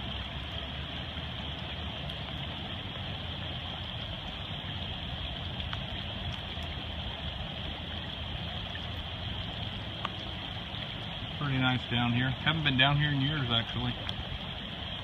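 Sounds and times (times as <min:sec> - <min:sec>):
rain falling: 0:00.0 - 0:15.0
river rushing: 0:00.0 - 0:15.0.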